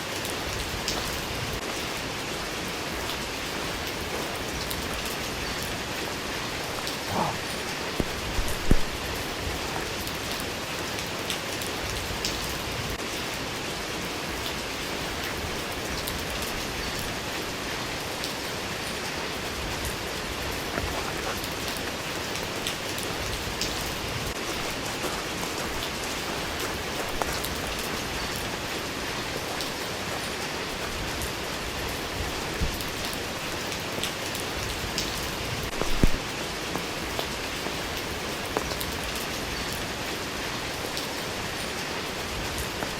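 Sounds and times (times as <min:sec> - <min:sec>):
raindrops ticking: 0:00.0 - 0:42.9
steady rain hiss: 0:00.0 - 0:42.9.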